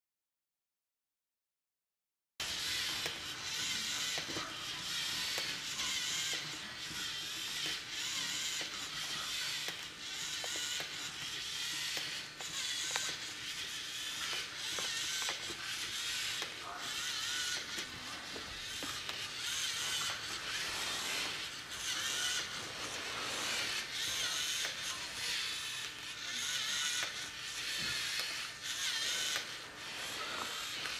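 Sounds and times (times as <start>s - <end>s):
plastic gears clicking: 2.4s - 30.9s
servo motors whirring: 2.4s - 30.9s.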